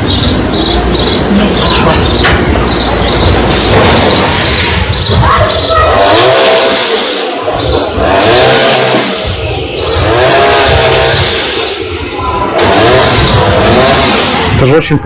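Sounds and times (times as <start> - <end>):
small petrol engine revving: 0.0 - 14.6.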